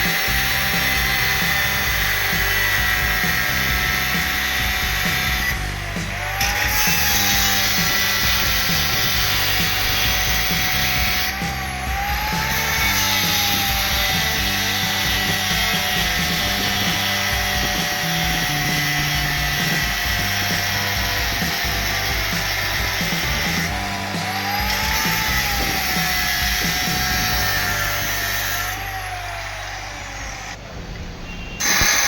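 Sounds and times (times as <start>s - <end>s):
background music: 0.0s - 30.1s
power tool whining: 0.0s - 30.7s, 31.3s - 32.0s.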